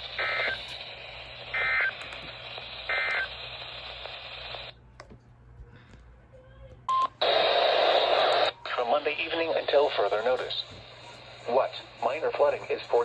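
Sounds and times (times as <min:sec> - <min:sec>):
radio hiss: 0:00.0 - 0:04.8, 0:07.2 - 0:13.0.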